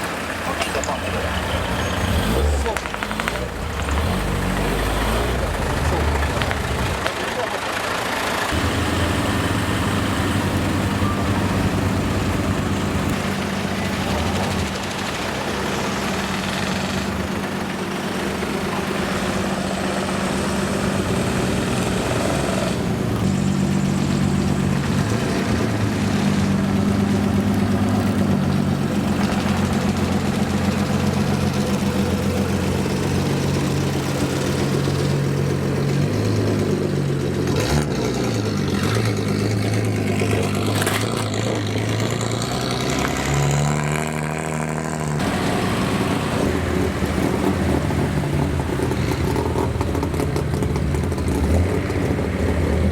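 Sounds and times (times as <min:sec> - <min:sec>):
car engines idling: 0:00.0 - 0:52.9.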